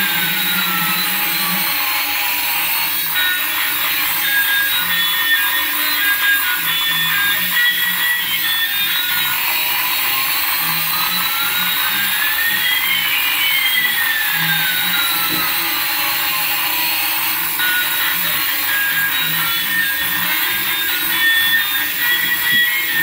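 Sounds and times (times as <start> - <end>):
toy helicopter rotor whirring: 0.0 - 23.0.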